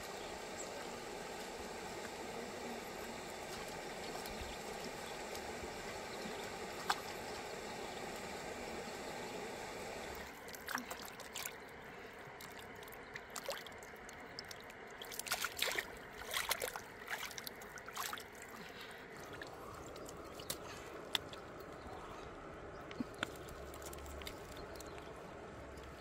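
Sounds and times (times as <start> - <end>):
water splashing and sloshing: 0.0 - 7.5, 10.1 - 26.0.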